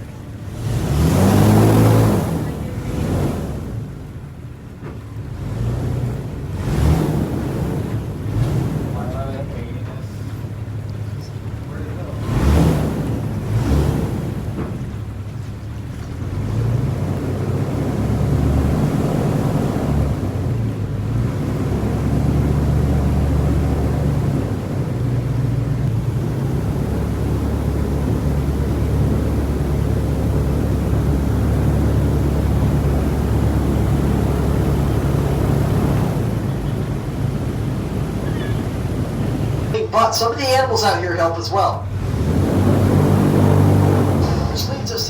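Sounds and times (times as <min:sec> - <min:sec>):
airboat engine and propeller humming: 0:00.0 - 0:45.0.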